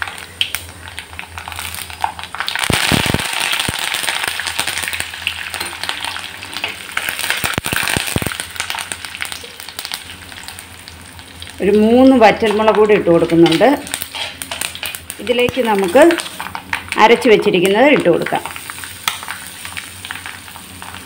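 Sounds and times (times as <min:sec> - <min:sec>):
leaves sputtering in hot oil: 0:00.0 - 0:21.0.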